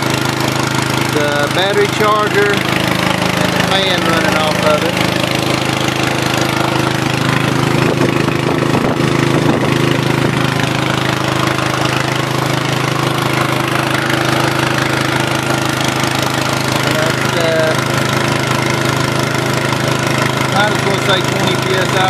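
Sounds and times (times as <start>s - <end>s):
generator hum: 0.0s - 22.0s
spraying water rushing: 0.0s - 22.0s.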